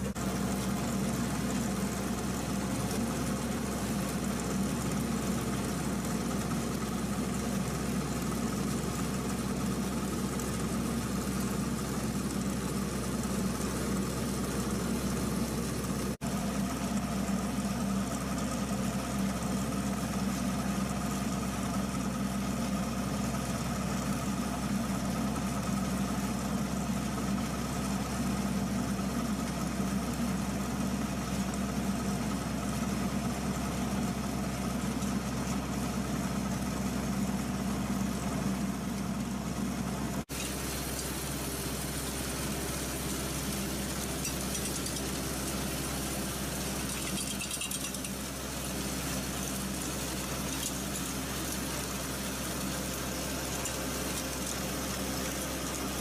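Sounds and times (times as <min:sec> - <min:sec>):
rotary ditcher cutting soil: 0:00.0 - 0:39.6, 0:40.2 - 0:56.0
tractor engine running under load: 0:00.0 - 0:56.0.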